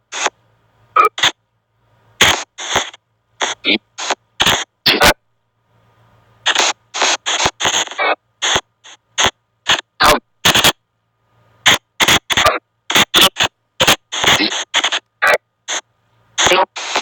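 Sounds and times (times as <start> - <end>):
bursts of garbled noisy audio: 0.0 - 1.4, 2.2 - 5.2, 6.4 - 10.8, 11.6 - 17.0.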